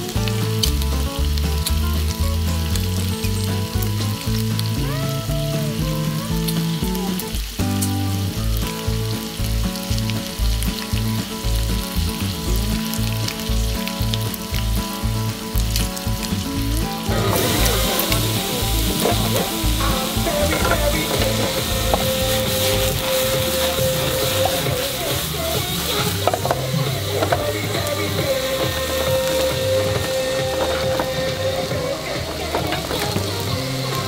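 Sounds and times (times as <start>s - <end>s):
background music with steady beat: 0.0s - 34.0s
batter sizzling in a pan: 0.0s - 34.0s.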